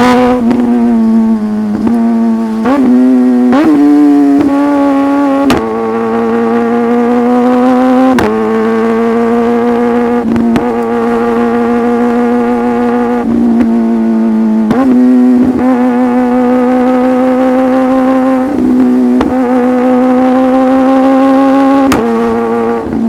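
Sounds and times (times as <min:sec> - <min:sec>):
motorcycle engine high pitch: 0:00.0 - 0:23.0.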